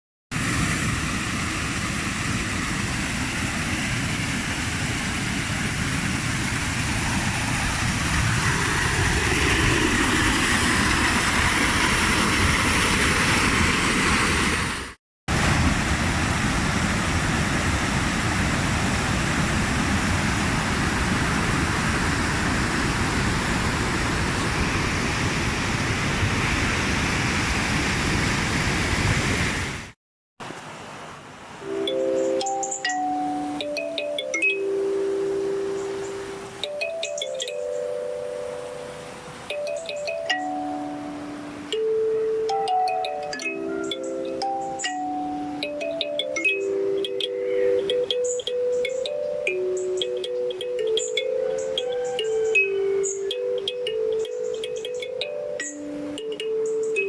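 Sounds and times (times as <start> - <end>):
water rushing: 0.3 - 57.0.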